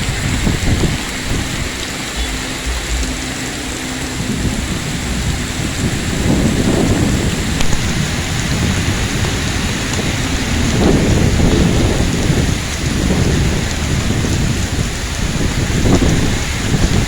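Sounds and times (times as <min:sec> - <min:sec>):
heavy rain hissing: 0:00.0 - 0:17.0
low rumbling: 0:00.0 - 0:17.0.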